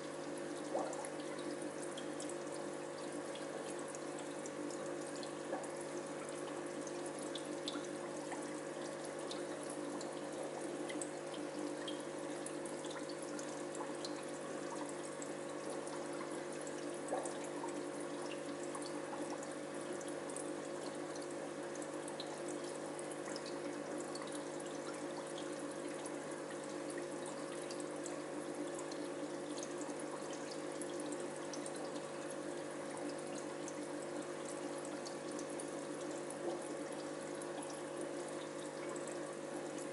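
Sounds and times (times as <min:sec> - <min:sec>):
water trickling and bubbling: 0:00.0 - 0:39.9.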